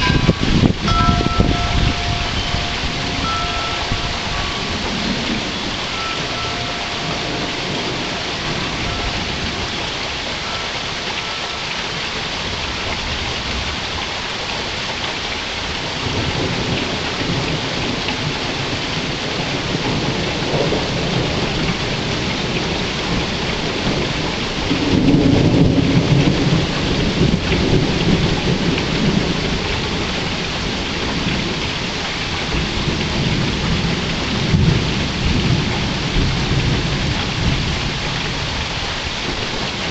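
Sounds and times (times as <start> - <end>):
rolling thunder: 0.0 - 11.2, 15.7 - 39.9
steady rain: 0.0 - 39.9.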